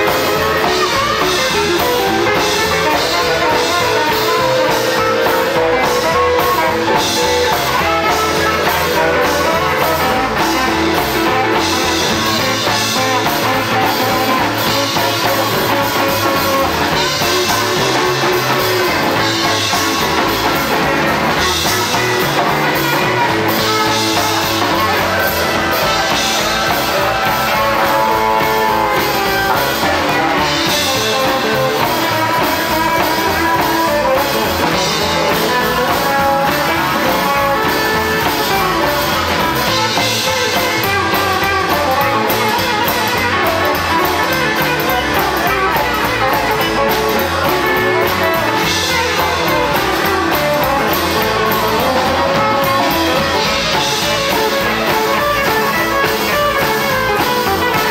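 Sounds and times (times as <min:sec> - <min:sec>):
drum kit: 0:00.0 - 0:57.9
electric guitar: 0:00.0 - 0:57.9
upright double bass: 0:00.0 - 0:57.9.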